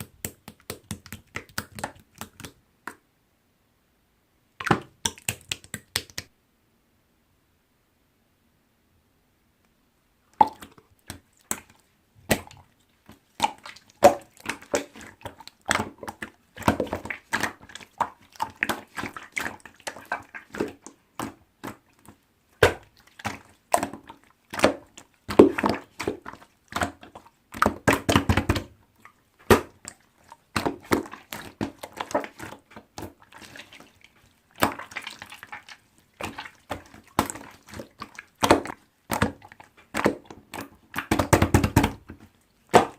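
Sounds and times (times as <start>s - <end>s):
slime squishing with wet pops: 0.0s - 3.0s, 4.6s - 6.3s, 10.3s - 42.9s.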